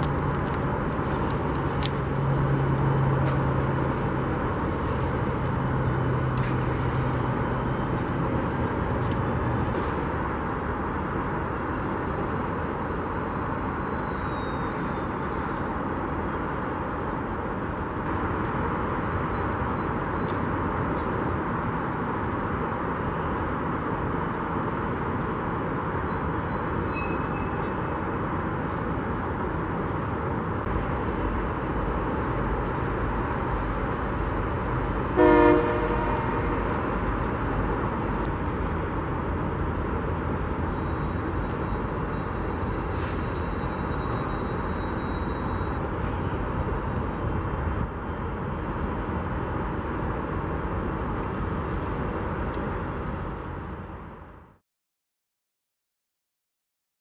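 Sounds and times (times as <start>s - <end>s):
diesel locomotives rumbling: 0.0s - 54.6s.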